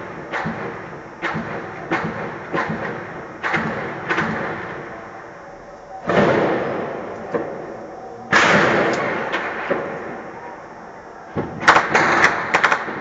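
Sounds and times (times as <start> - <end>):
gunfire reports: 0.0 - 13.0
heavy blasts with rolling echo: 0.0 - 13.0.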